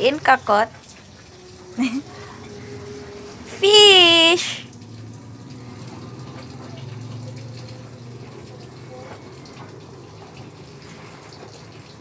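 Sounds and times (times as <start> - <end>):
water trickling into tank: 0.0 - 12.0.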